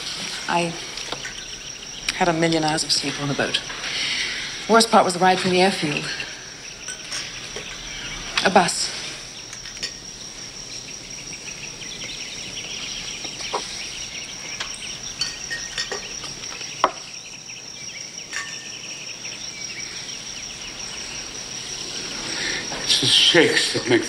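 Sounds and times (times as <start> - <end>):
insect chirring: 0.0 - 24.0.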